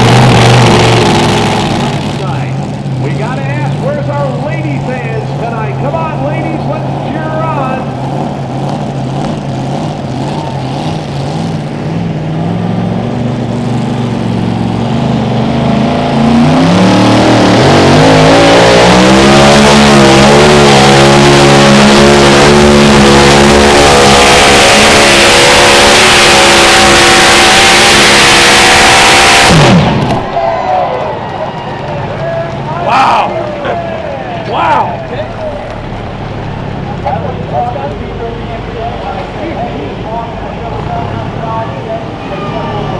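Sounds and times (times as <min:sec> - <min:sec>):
pulling tractor engine revving: 0:00.0 - 0:42.9.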